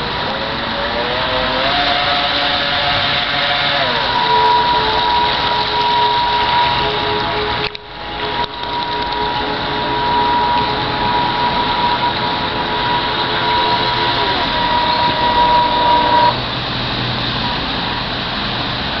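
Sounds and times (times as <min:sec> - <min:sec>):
background hiss: 0:00.0 - 0:19.0
model boat motor whining: 0:00.0 - 0:19.0.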